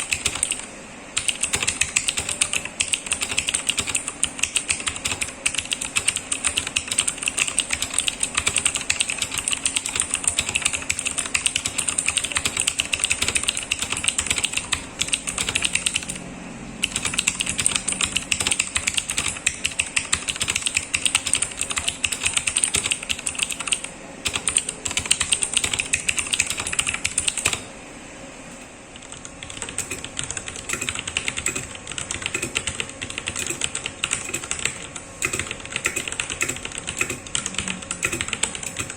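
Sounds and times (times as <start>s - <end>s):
typing on mechanical keyboard: 0.0s - 16.2s, 16.8s - 27.6s, 29.0s - 38.9s.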